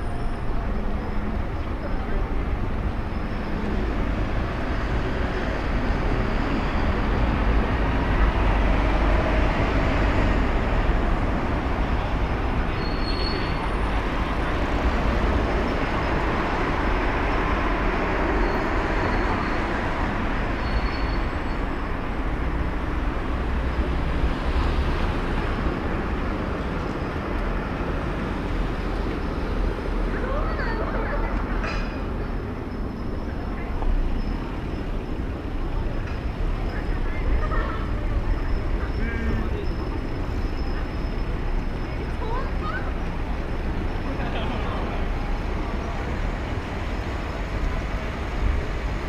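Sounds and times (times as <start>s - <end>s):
low rumble of road traffic: 0.0s - 49.0s.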